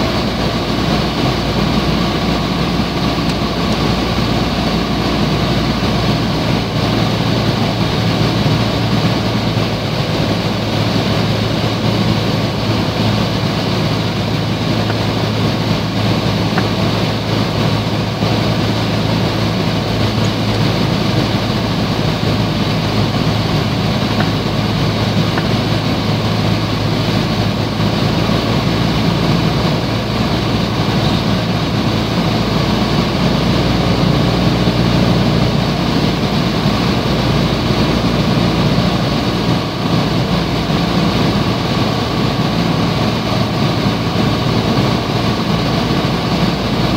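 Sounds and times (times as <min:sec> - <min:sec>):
airplane engine and propeller droning: 0:00.0 - 0:46.9.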